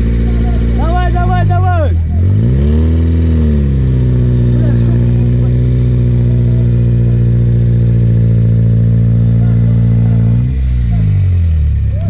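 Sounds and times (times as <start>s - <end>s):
engine under load: 0.0s - 12.0s.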